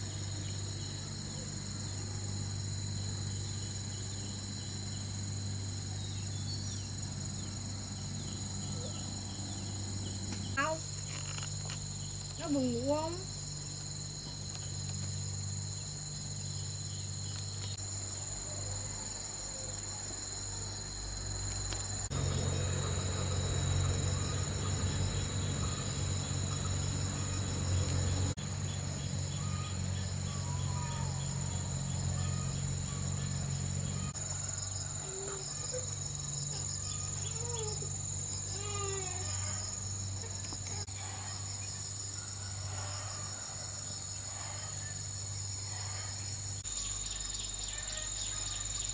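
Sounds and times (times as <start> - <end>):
crickets and insects trilling: 0.0 - 48.9.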